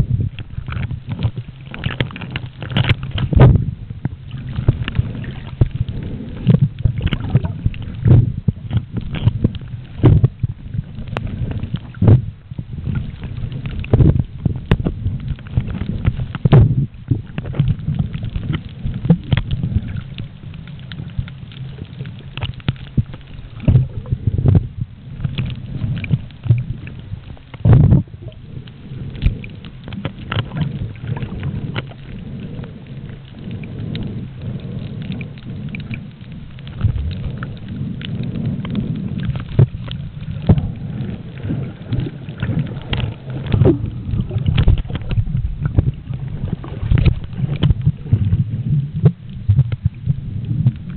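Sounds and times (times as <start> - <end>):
muffled underwater rumble: 0.0 - 50.9
clicks and crackles: 0.1 - 50.9.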